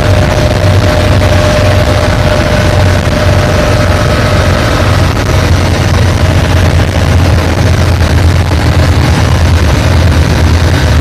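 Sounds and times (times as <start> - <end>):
boat engine low drone: 0.0 - 11.0
hiss of water and wind: 0.0 - 11.0.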